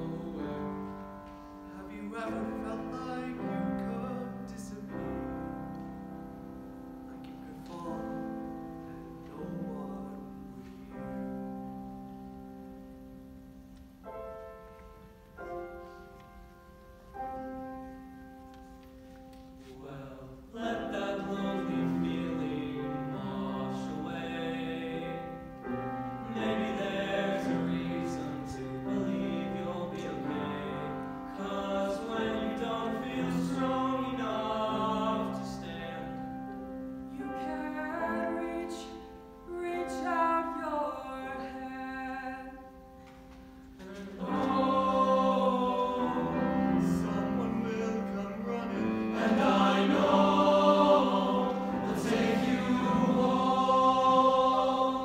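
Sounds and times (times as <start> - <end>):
choir singing in harmony: 0.0 - 13.1, 19.7 - 42.8, 43.7 - 55.0
piano accompaniment: 0.0 - 55.0.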